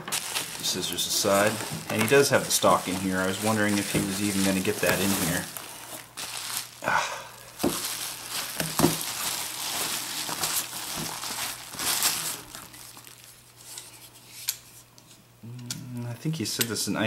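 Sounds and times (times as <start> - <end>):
bubble wrap crinkling: 0.0 - 14.5.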